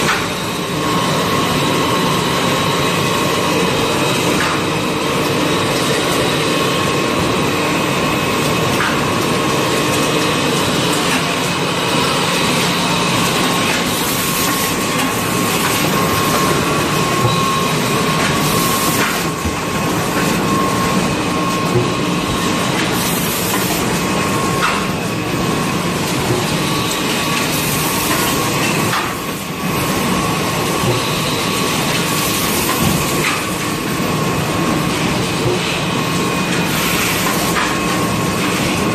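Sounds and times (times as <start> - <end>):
packing machine clattering and whining: 0.0 - 38.9.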